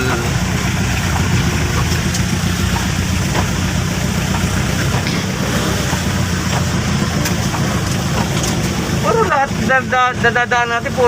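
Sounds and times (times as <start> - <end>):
road and wind hiss: 0.0 - 11.0
vehicle engine rumbling: 0.0 - 11.0.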